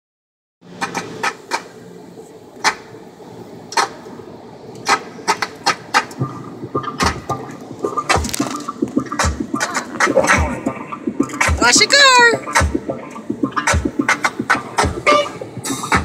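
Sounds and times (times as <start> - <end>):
car wash machinery hum: 0.6 - 16.0.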